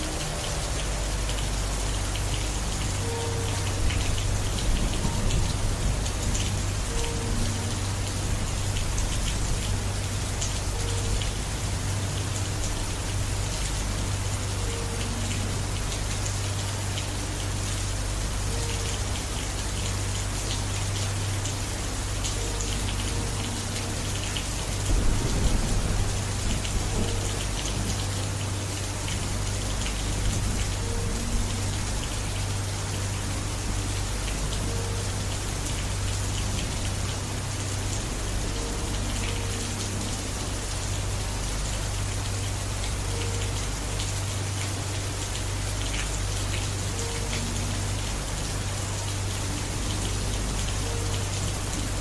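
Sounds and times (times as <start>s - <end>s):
heavy rain falling: 0.0s - 52.0s
low rumble: 0.0s - 52.0s.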